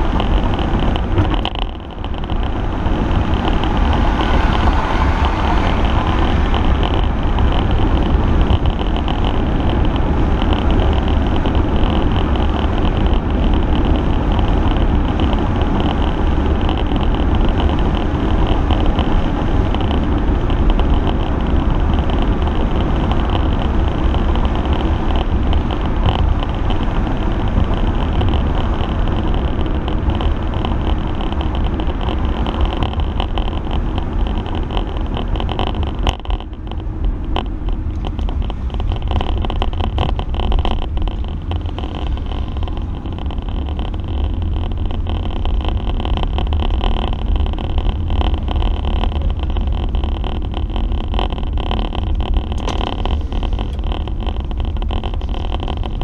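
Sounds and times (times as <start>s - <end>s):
car interior road and engine drone: 0.0s - 56.0s.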